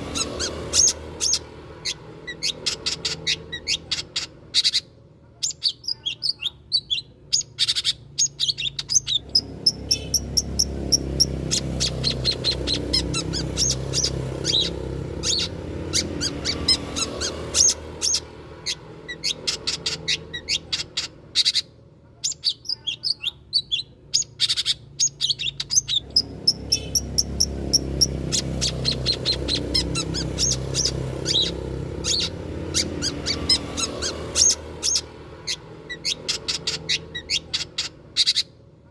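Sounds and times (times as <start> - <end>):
shrike chirping and chattering: 0.0 - 38.6.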